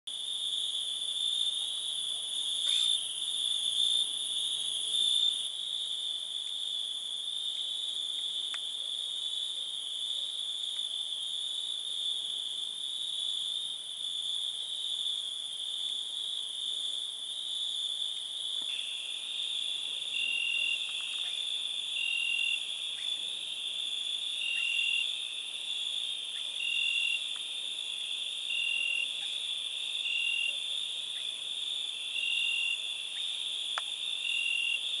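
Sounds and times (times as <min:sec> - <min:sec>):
crickets trilling: 0:00.1 - 0:35.0.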